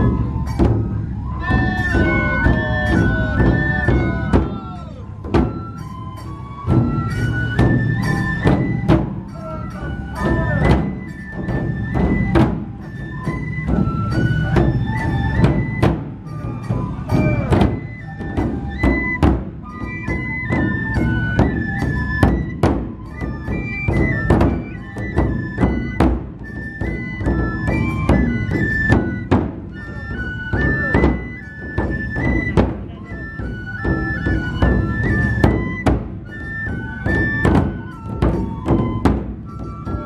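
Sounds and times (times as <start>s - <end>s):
bamboo flute melody: 0.0s - 40.0s
large drums beaten: 0.0s - 40.0s.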